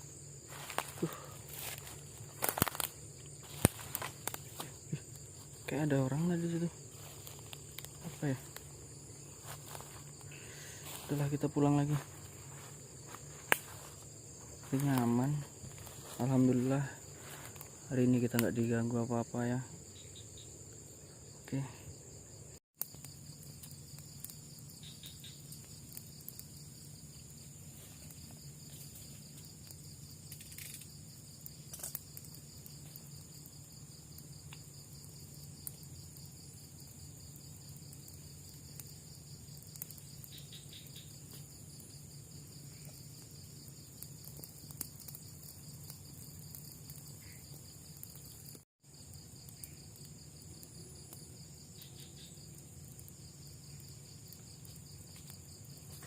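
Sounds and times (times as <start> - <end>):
fast pulsing cricket trill: 0.0 - 56.0
higher steady cricket trill: 0.0 - 56.0.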